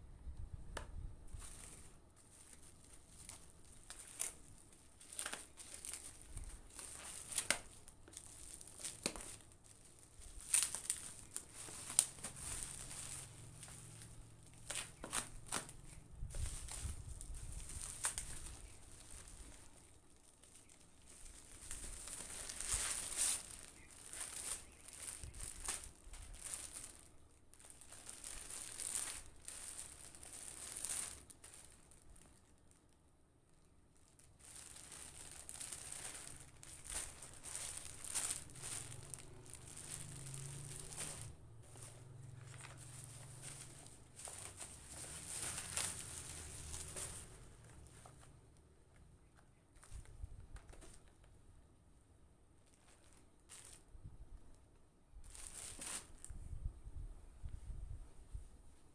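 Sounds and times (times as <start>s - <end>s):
plastic packaging crinkling and tearing: 1.3s - 51.3s, 52.6s - 54.0s, 55.2s - 56.4s.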